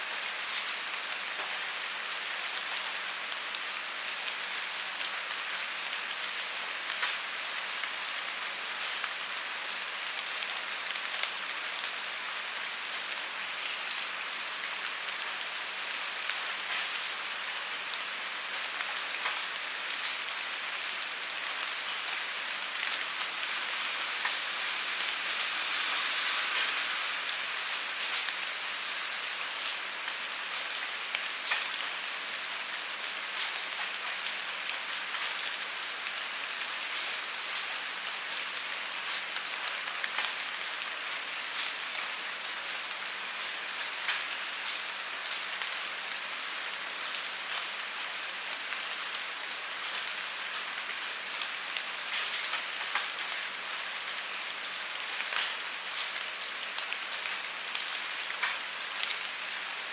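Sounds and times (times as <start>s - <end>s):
rain hiss: 0.0s - 59.9s
raindrops ticking on surface: 0.1s - 59.9s.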